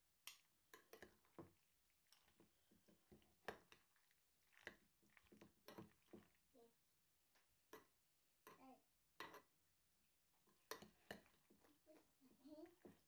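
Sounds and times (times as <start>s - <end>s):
soft squelching of pasta salad: 0.0s - 13.0s.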